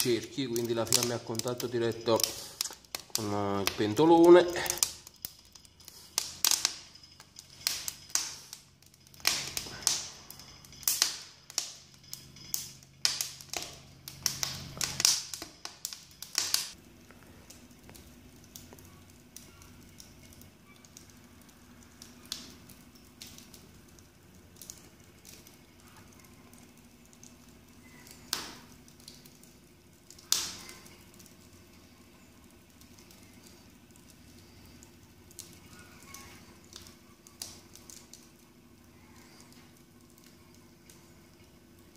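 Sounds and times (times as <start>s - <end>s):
low steady hum: 0.0s - 41.9s
wood fire crackling and popping: 0.0s - 41.9s.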